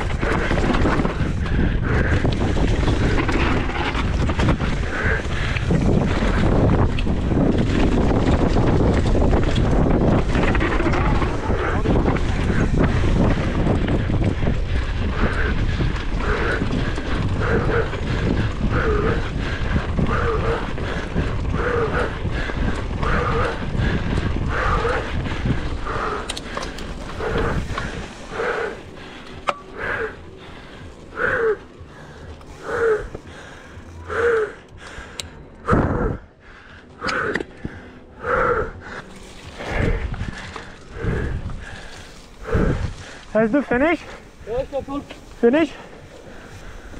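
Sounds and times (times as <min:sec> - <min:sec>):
person panting hard: 0:00.0 - 0:43.4, 0:44.0 - 0:46.9
wind noise on microphone: 0:00.0 - 0:46.9.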